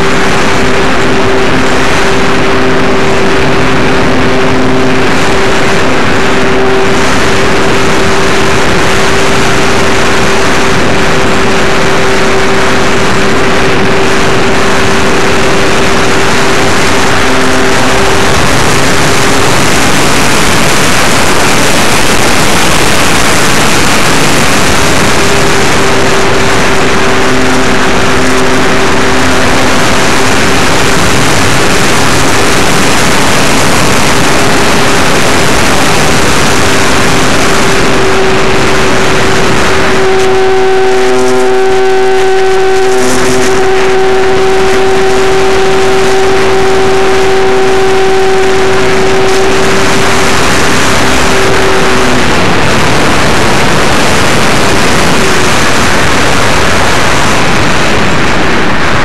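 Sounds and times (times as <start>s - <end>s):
electric motor and propeller hum: 0.0s - 59.0s
wind rushing over microphone: 0.0s - 59.0s.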